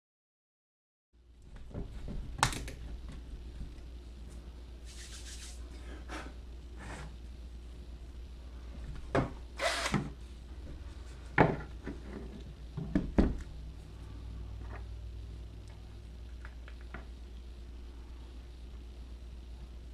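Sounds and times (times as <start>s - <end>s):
steady low hum: 1.2s - 19.9s.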